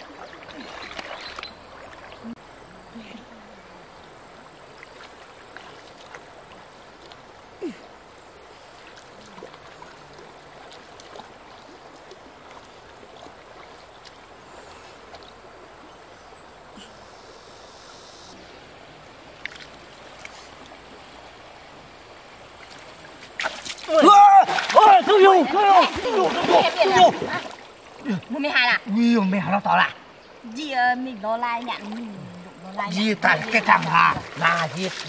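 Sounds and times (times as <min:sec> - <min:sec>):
river flowing over stones: 0:00.0 - 0:17.4, 0:18.3 - 0:35.0.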